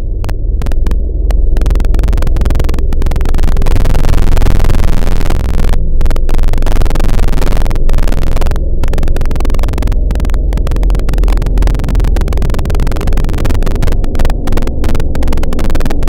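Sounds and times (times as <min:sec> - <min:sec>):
harsh electronic noise music: 0:00.0 - 0:16.0.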